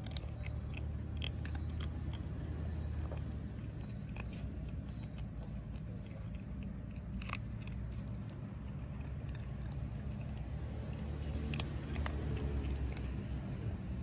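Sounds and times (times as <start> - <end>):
cats chewing dry kibble: 0.0 - 14.0
steady low rumble: 0.0 - 14.0.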